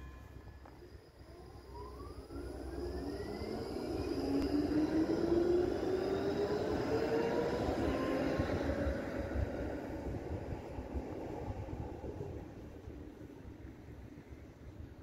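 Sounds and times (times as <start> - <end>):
tram electric drive whine: 0.0 - 15.0.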